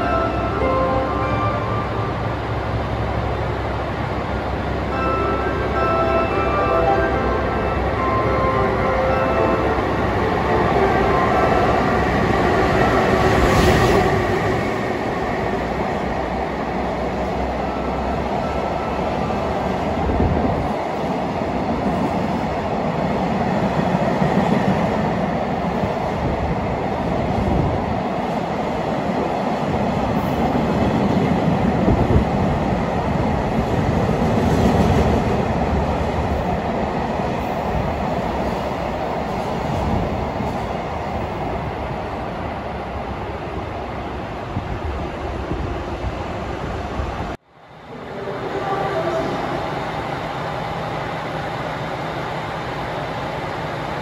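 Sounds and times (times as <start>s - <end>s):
electric locomotive passing: 0.0s - 54.0s
train wheels rumbling on rails: 9.8s - 54.0s.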